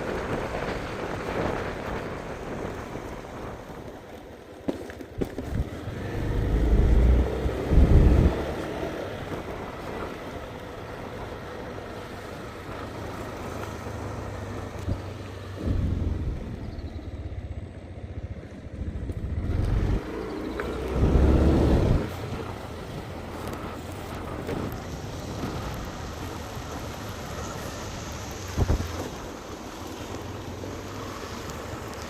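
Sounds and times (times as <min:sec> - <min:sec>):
wind rushing over microphone: 0:00.0 - 0:04.4, 0:05.2 - 0:17.2, 0:18.6 - 0:32.0
motor vehicle running: 0:00.0 - 0:32.0.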